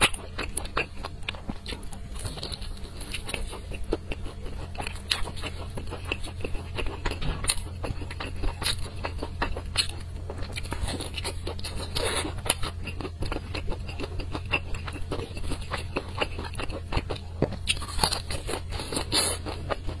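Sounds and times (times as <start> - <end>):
chewing crispy food: 0.0 - 20.0
low hum: 0.0 - 20.0.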